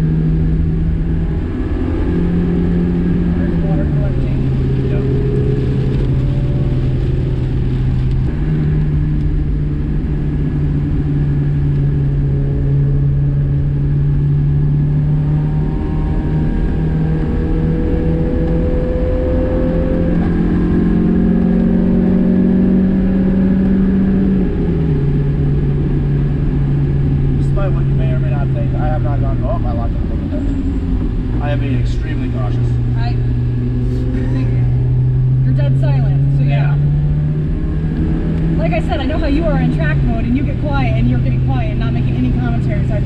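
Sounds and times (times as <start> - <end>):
car engine accelerating: 0.0 - 43.0
road noise: 0.0 - 43.0.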